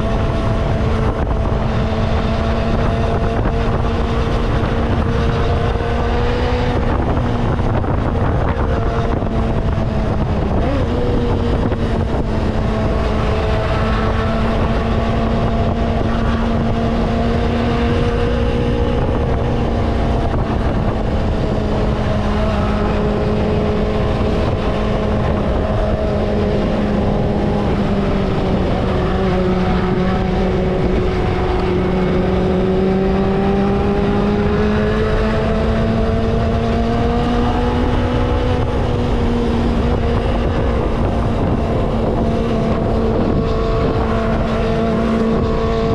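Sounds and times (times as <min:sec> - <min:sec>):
motorcycle engine cruising: 0:00.0 - 0:45.9
wind rushing over microphone: 0:00.0 - 0:45.9.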